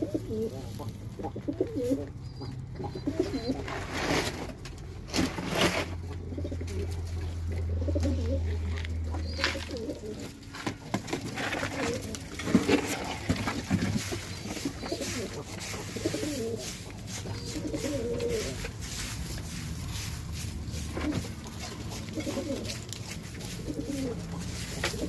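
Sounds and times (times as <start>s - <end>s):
pigeons cooing: 0.0s - 4.6s, 5.4s - 25.0s
scrapes and knocks: 3.4s - 7.1s, 8.6s - 25.0s.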